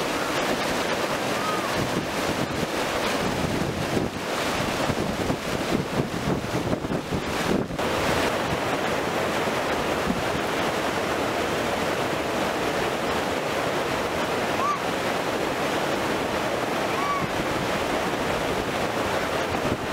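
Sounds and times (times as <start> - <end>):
water rushing over concrete step: 0.0 - 19.9.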